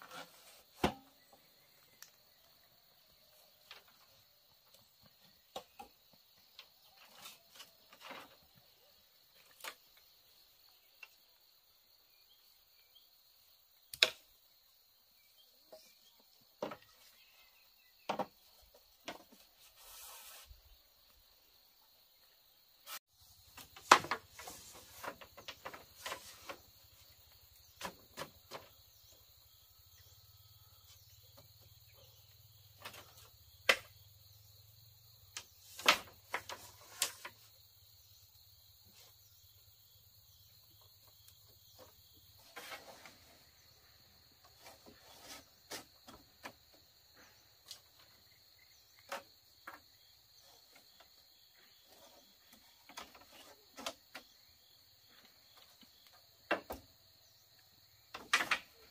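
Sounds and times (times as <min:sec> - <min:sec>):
insects chirring: 0:00.0 - 0:58.9.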